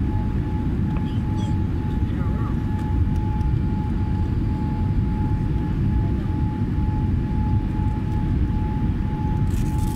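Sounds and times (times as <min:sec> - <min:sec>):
engine and airflow rumble: 0:00.0 - 0:09.9
faint steady whine: 0:00.0 - 0:09.9.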